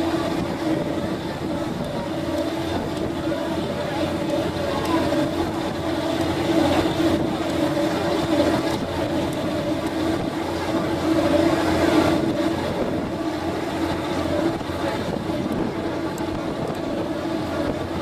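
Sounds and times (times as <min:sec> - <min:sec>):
boat engine droning: 0:00.0 - 0:18.0
wind and water hiss: 0:00.0 - 0:18.0.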